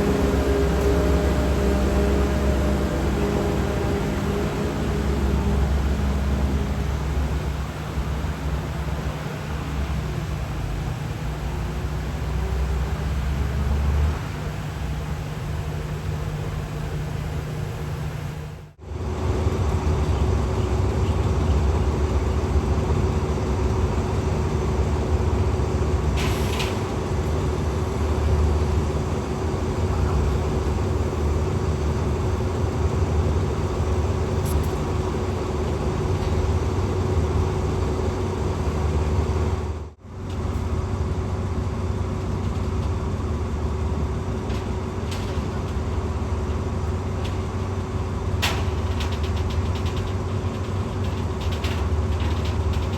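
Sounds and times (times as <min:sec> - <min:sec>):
diesel train engine rumbling: 0:00.0 - 0:52.9.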